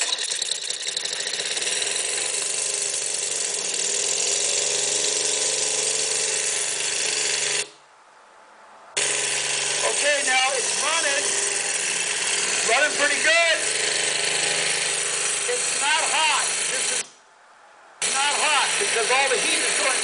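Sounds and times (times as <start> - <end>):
small gasoline engine running: 0.0 - 7.7, 9.0 - 17.1, 18.0 - 20.0.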